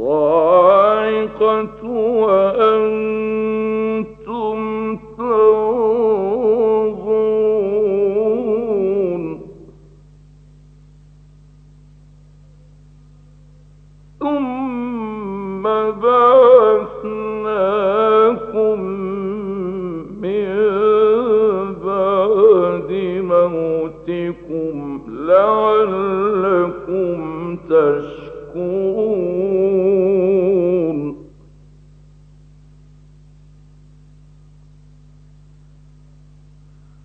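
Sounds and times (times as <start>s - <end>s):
low recording hum: 0.0s - 37.0s.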